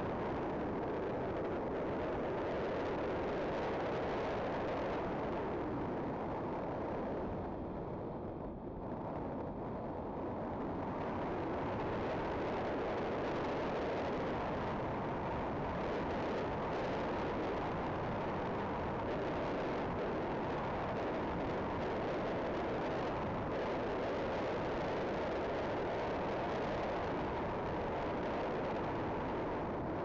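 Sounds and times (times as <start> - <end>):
wind and road noise rushing: 0.0 - 30.0.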